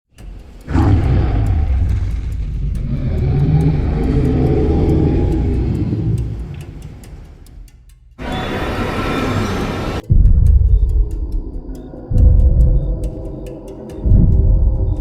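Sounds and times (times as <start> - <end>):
deep dinosaur bellow: 0.7 - 7.5, 8.2 - 15.0.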